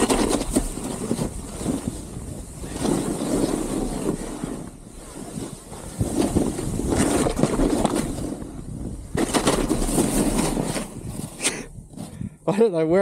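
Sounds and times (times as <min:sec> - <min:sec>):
snowboard scraping over snow: 0:00.0 - 0:12.2
wind on microphone: 0:00.0 - 0:12.5.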